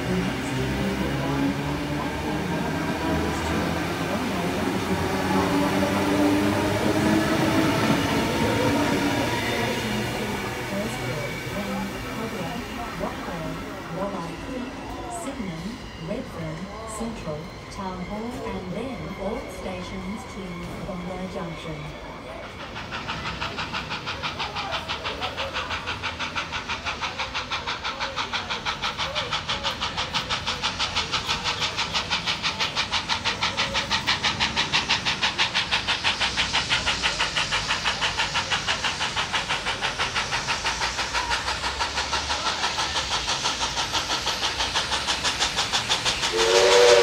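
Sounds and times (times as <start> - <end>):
steam locomotive exhaust beating: 0.0 - 47.0.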